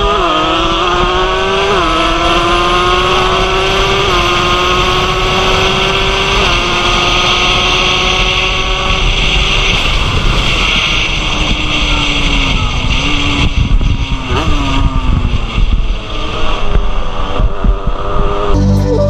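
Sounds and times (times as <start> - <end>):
motorcycle engine revving high: 0.0 - 19.0
wind rush: 0.6 - 18.6.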